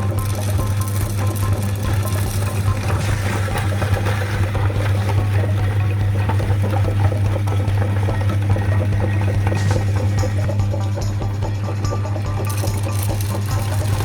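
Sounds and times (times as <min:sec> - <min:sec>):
candy crackling in grinder: 0:00.0 - 0:10.8, 0:12.4 - 0:14.0
meat grinder motor hum: 0:00.0 - 0:14.0.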